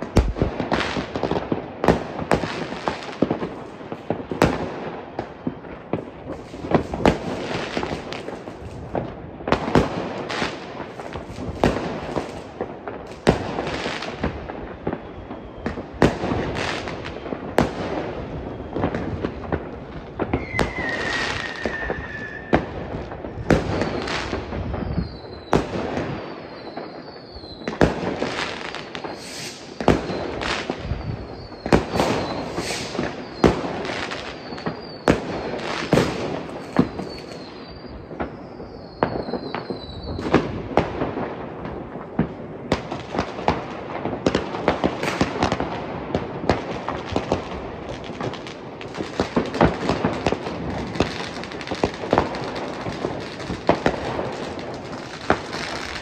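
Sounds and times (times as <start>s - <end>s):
background firework crackle: 0.0s - 56.0s
fireworks banging: 0.0s - 56.0s
whistling firework: 0.0s - 56.0s.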